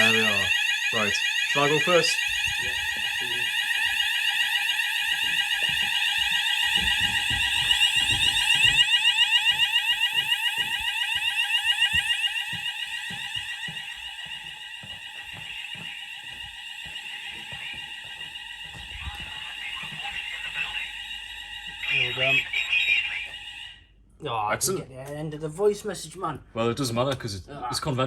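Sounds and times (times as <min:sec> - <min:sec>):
fire alarm sweeping tone: 0:00.0 - 0:23.9.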